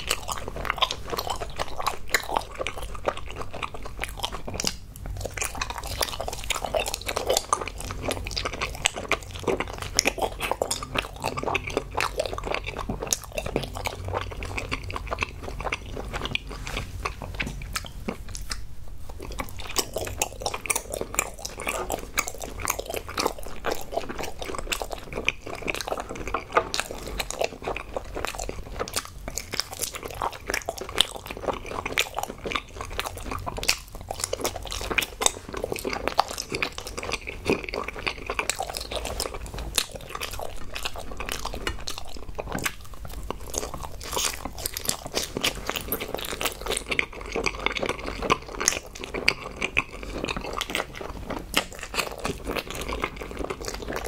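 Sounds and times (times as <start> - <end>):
chewing gummy candies: 0.0 - 54.0.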